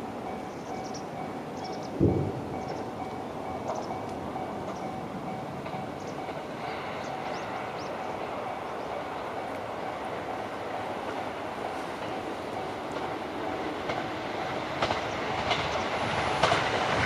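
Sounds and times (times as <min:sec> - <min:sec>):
level crossing warning bell: 0:00.0 - 0:14.7
train rumbling past: 0:00.0 - 0:17.0.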